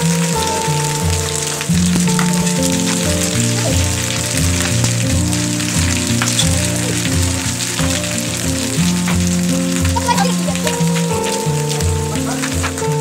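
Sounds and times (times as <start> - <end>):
background music low notes: 0.0 - 13.0
heavy rain on wet ground: 0.0 - 13.0
small impacts: 0.0 - 13.0.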